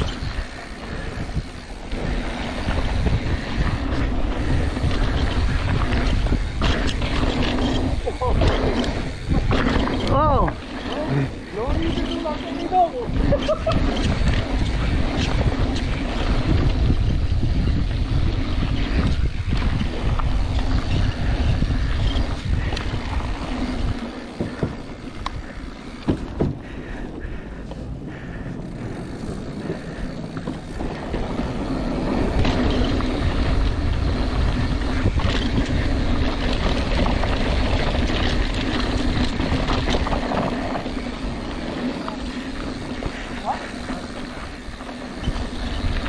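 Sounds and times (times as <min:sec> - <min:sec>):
bike knocking and rattling: 0:00.0 - 0:46.0
low buzz from bike: 0:00.0 - 0:46.0
tyres rolling over dirt: 0:00.0 - 0:46.0
wind buffeting microphone: 0:00.0 - 0:46.0.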